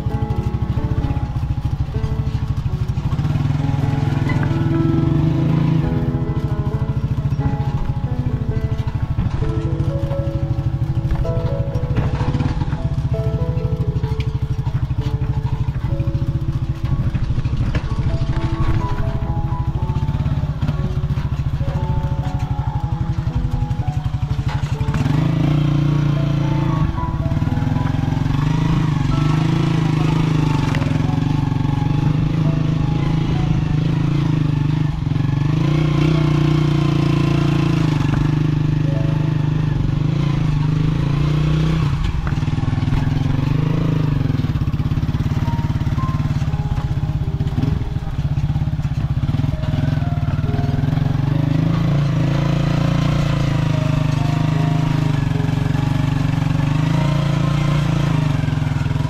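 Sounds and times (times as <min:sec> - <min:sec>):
engine drone: 0:00.0 - 0:59.0.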